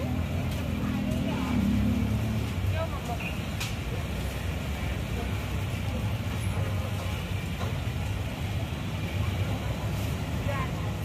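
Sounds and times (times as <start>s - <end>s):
low rumble of motor traffic: 0.0s - 11.0s.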